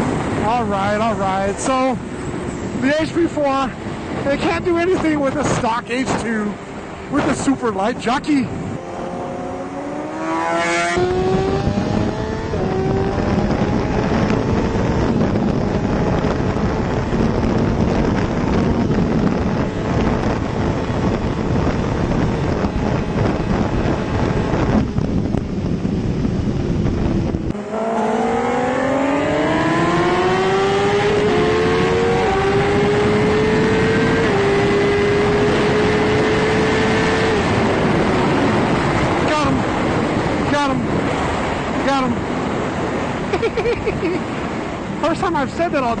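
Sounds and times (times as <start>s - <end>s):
motorcycle accelerating hard: 0.0s - 45.2s
wind rush: 0.0s - 46.0s.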